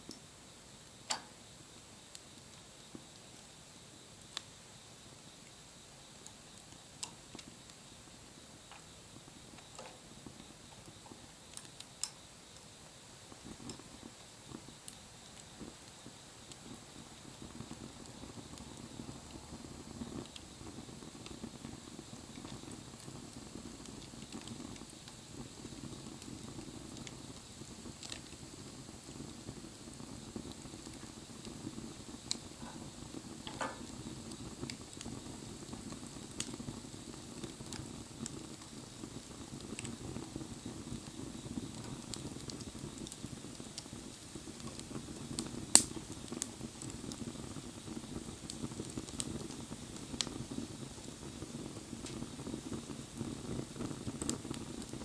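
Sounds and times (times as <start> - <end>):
bonfire flames crackling: 0.0 - 55.0.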